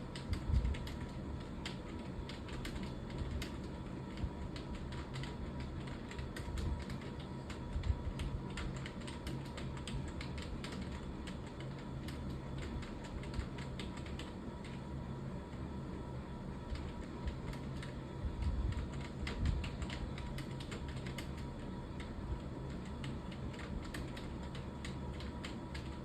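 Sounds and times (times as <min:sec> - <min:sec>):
keyboard typing: 0:00.0 - 0:14.9, 0:16.5 - 0:26.0
steady low hum: 0:00.0 - 0:26.0.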